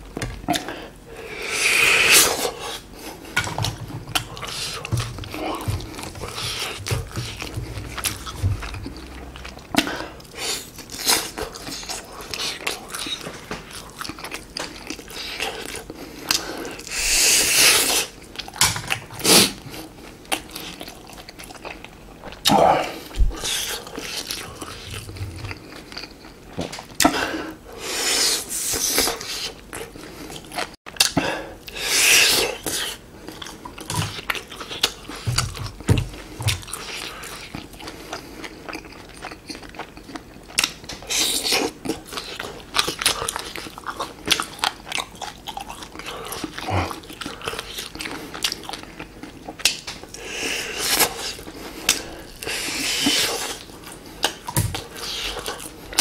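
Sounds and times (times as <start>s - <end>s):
chewing meat: 1.8s - 27.7s, 28.8s - 56.0s.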